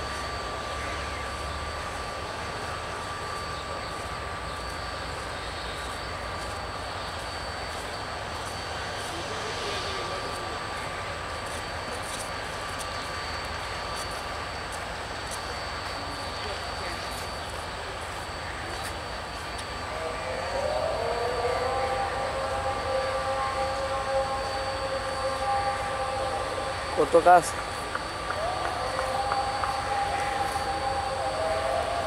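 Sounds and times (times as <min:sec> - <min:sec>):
diesel train approaching: 0:00.0 - 0:32.0.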